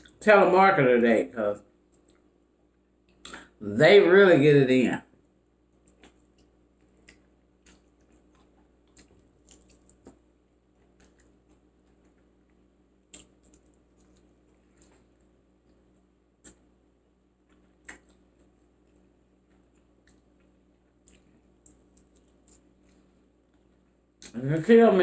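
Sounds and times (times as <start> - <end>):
person chewing food: 1.8 - 3.5, 5.6 - 24.4.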